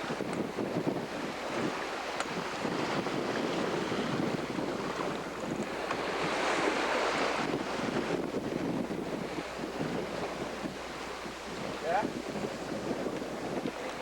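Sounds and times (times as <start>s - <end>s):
ocean waves rushing: 0.0s - 14.0s
wind buffeting microphone: 0.0s - 14.0s.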